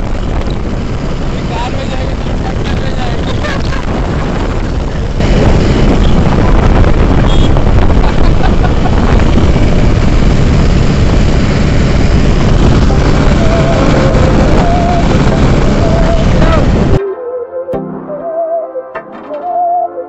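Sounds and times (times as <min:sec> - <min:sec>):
tractor diesel engine running: 0:00.0 - 0:17.0
wind buffeting microphone: 0:00.0 - 0:17.0.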